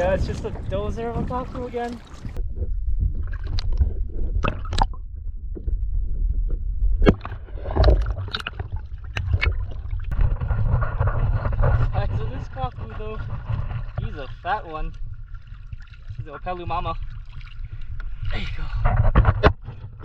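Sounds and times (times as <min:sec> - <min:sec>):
water gurgling: 0:00.0 - 0:05.1, 0:07.0 - 0:19.9
wind rumble on microphone: 0:00.0 - 0:20.0.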